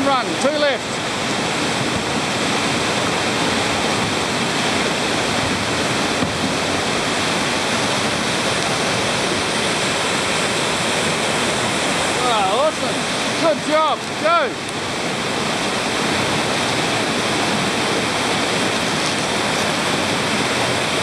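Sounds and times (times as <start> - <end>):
river rapids rushing: 0.0 - 21.0.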